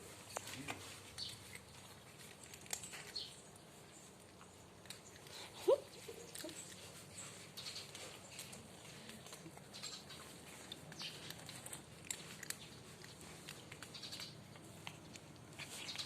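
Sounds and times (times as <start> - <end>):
small animals clicking and pattering: 0.0 - 16.0.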